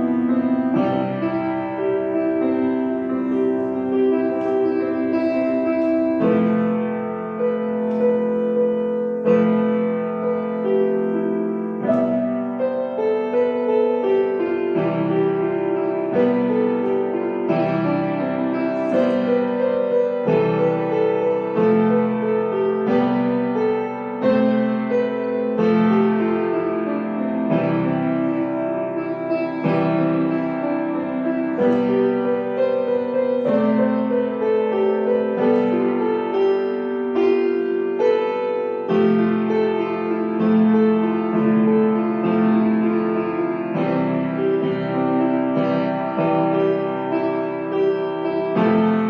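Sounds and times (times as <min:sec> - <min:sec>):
slow piano chords: 0:00.0 - 0:49.0.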